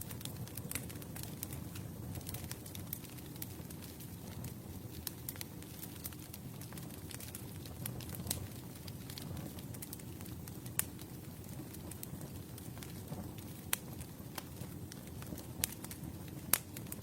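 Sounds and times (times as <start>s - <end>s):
burning wood crackling and popping: 0.0s - 17.0s
low rush of flames: 0.0s - 17.0s.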